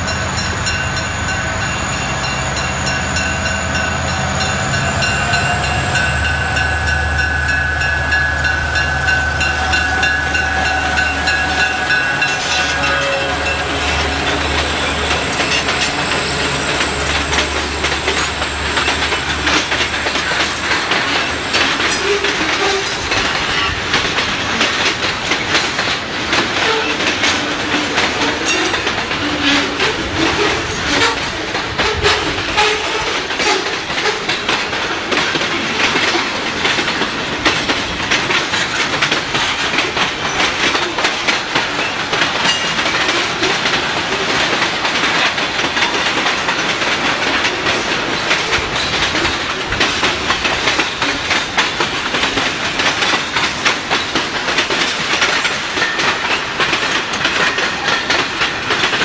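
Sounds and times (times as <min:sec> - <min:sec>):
freight train rolling past: 0:00.0 - 0:59.0
wheels clicking over rail joints: 0:00.0 - 0:59.0.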